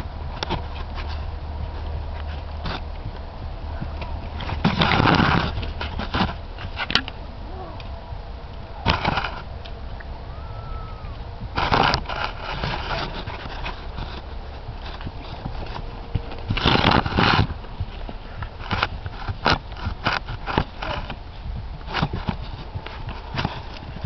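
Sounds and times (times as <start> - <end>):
horse hoofbeats on grass: 0.0 - 6.8, 7.5 - 24.0.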